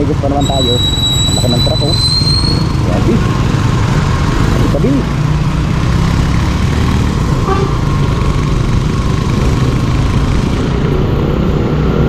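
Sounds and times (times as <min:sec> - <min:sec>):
motorcycle engine running: 0:00.0 - 0:12.0
tyres on wet road: 0:00.0 - 0:12.0.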